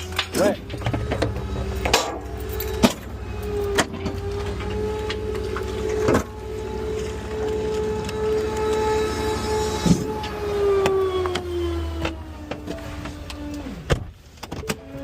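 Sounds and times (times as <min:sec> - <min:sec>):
garbage truck whine: 0:00.0 - 0:15.0.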